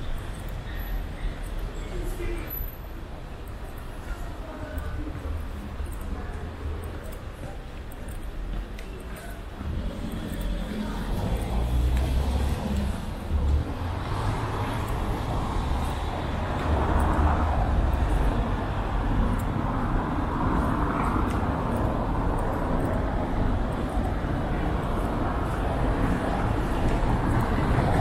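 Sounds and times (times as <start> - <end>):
cars driving on cobblestones: 0.0 - 28.0.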